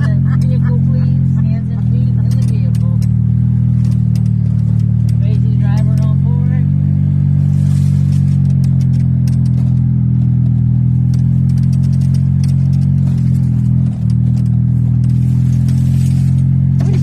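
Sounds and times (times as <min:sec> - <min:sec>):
light rattling clicks: 0:00.0 - 0:06.5, 0:08.1 - 0:15.8
golf cart humming: 0:00.0 - 0:17.0.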